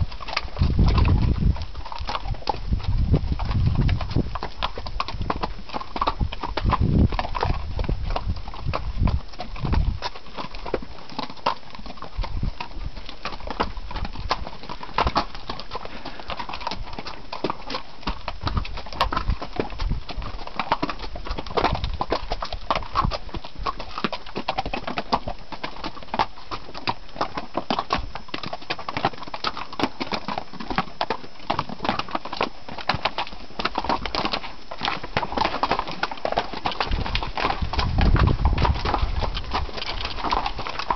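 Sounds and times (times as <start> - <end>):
hooves clip-clopping on rocky trail: 0.0 - 40.9.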